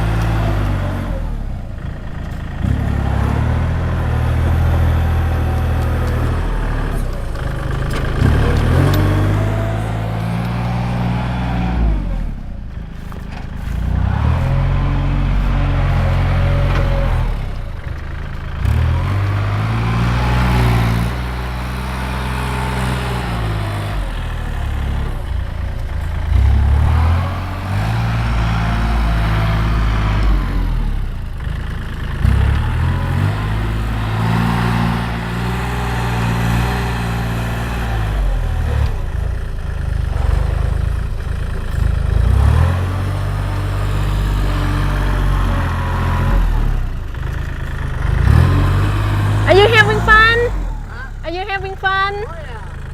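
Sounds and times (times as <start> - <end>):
tractor engine revving: 0.0 - 52.9.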